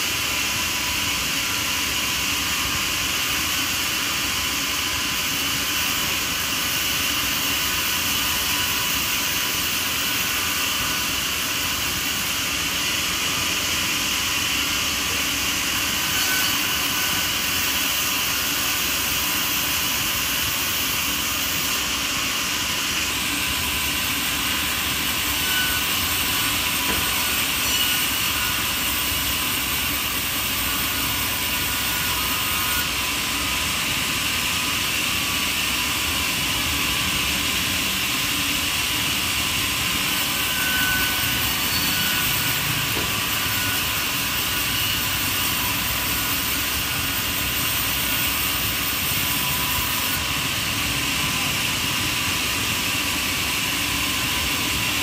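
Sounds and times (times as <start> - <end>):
power saw running: 0.0 - 55.0.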